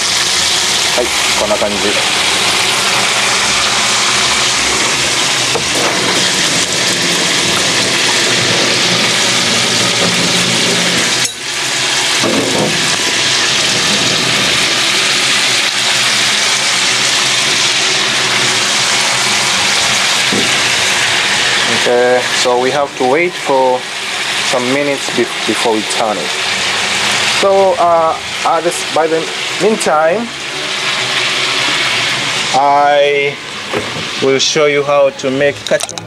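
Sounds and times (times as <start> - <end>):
fish sizzling in hot oil: 0.0 - 34.4.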